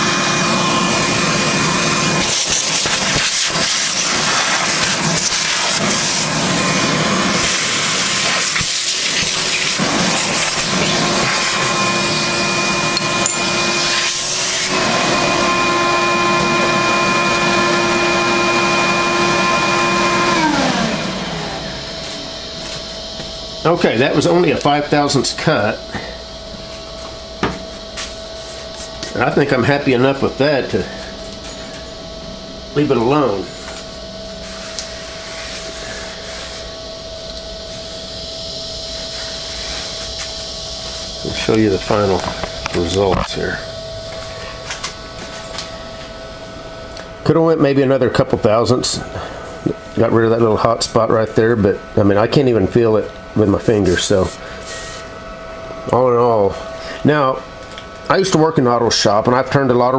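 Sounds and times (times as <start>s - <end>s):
milling cutter rushing whine: 0.0s - 59.9s
shop vacuum running: 0.0s - 59.9s.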